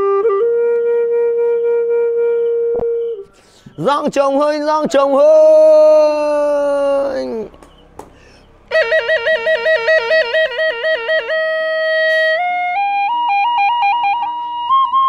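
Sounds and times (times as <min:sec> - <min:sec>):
flute-like wind instrument trilling: 0:00.0 - 0:07.5, 0:08.7 - 0:15.0.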